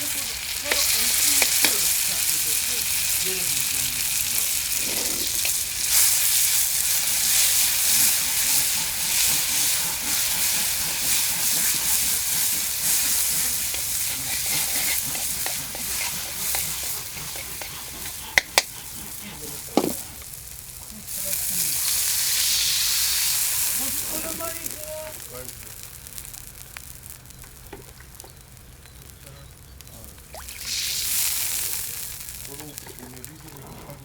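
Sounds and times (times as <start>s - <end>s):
stirring in pan: 0.0s - 28.3s, 30.2s - 34.0s
food sizzling in hot oil: 0.0s - 34.0s.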